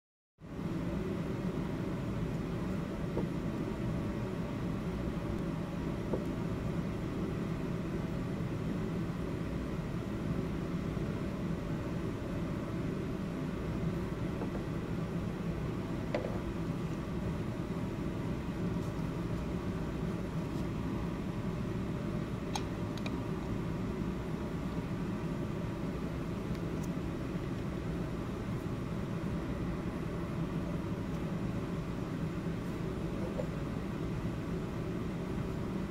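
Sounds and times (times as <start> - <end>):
low mechanical hum with hiss: 0.4 - 35.9.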